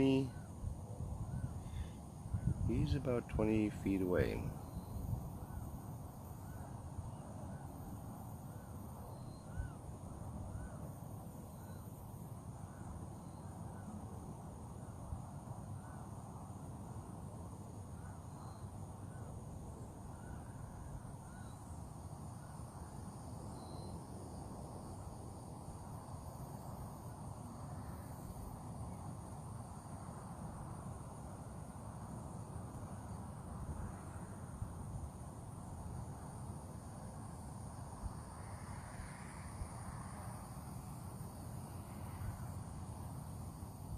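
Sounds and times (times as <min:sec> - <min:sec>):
high insect drone: 0:00.0 - 0:43.9.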